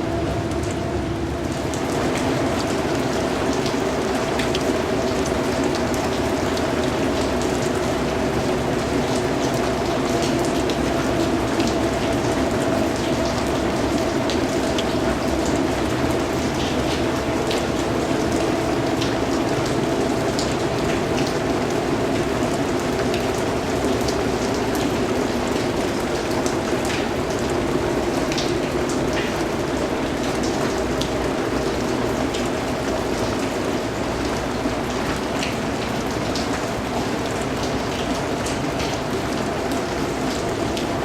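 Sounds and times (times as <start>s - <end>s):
steady rain hiss: 0.0s - 41.0s
raindrop ticks: 0.1s - 41.0s.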